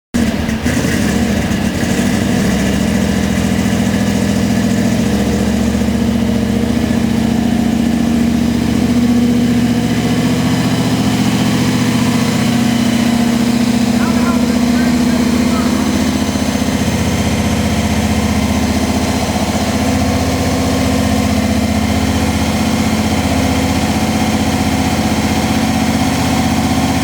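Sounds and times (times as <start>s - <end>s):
supercharged engine idling: 0.1s - 27.0s.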